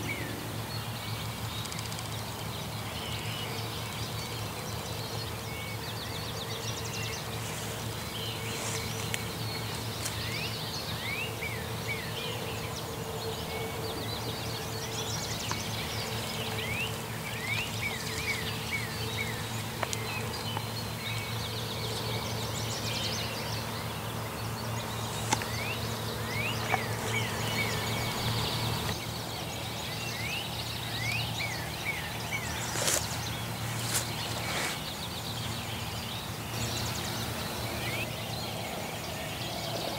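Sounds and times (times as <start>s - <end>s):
songbirds singing: 0.0s - 39.9s
steady low hum: 0.0s - 39.9s.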